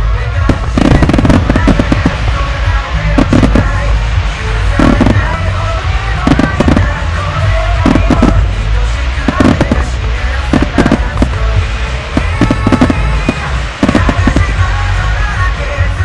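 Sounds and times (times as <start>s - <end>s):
fireworks bursting: 0.0s - 16.0s
low rumble: 0.0s - 16.0s
music from loudspeakers: 0.0s - 16.0s.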